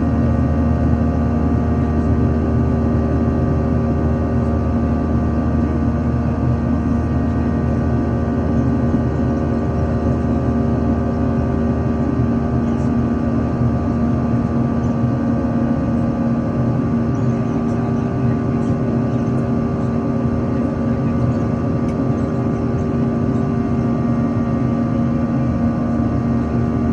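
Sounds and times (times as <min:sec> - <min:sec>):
airliner engines droning: 0:00.0 - 0:26.9.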